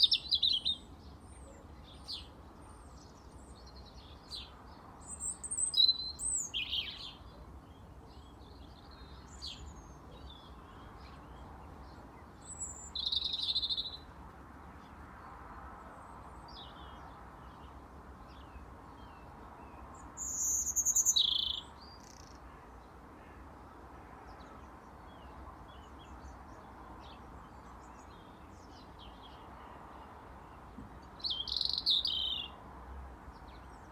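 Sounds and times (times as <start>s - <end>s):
robin singing: 0.0s - 14.1s, 16.4s - 23.4s, 24.4s - 32.6s.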